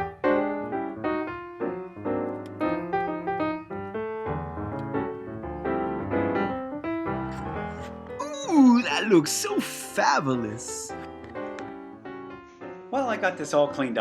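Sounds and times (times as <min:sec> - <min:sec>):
piano melody over bass: 0:00.0 - 0:14.0.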